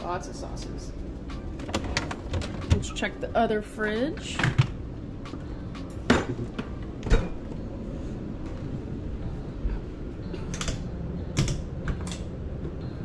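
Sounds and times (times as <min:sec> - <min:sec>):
steady low background noise: 0:00.0 - 0:13.0.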